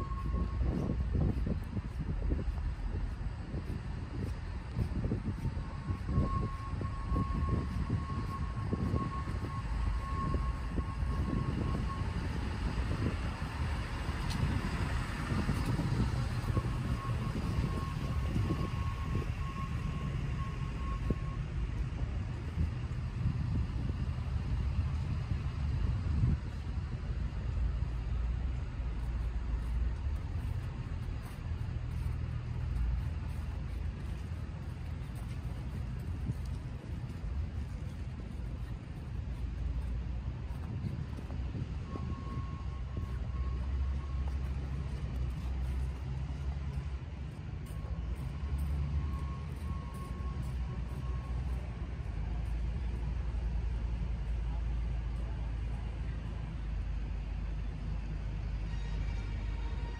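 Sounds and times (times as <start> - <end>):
loader diesel engine drone: 0.0 - 59.9.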